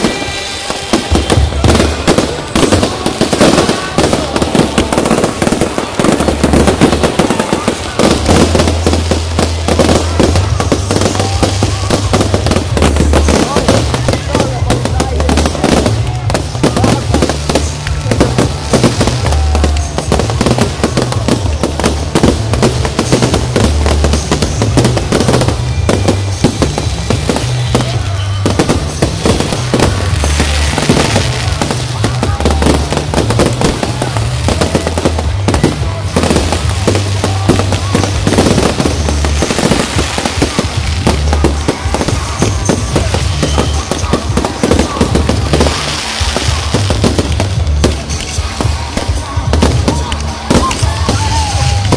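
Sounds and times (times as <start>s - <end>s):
fireworks bangs and crackling: 0.0s - 51.9s
loud music with heavy bass: 0.9s - 51.9s.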